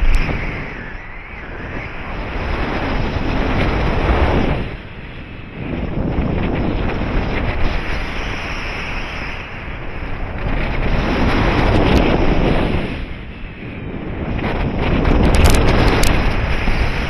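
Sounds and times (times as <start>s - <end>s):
wind roaring over microphone: 0.0s - 17.0s.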